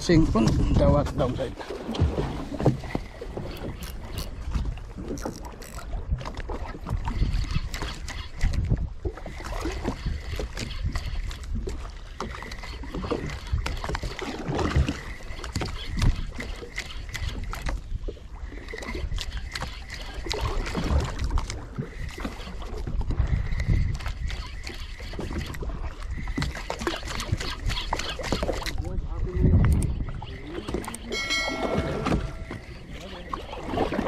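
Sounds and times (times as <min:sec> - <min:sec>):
water slapping against boat hull: 0:00.2 - 0:28.9.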